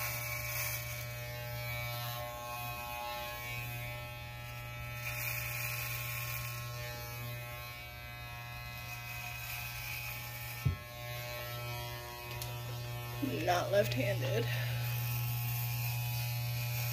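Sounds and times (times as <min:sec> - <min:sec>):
hair clippers buzzing: 0:00.0 - 0:16.9.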